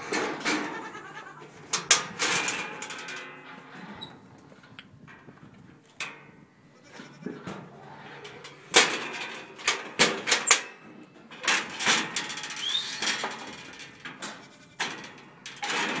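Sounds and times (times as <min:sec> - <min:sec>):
metal gate clanks and rattles: 0:00.0 - 0:16.0.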